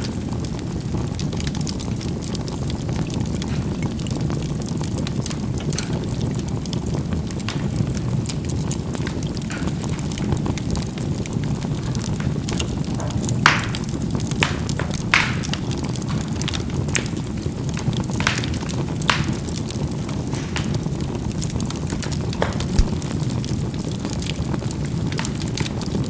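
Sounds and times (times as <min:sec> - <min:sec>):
coals crackling and popping: 0:00.0 - 0:26.0
fire low rumble: 0:00.0 - 0:26.0.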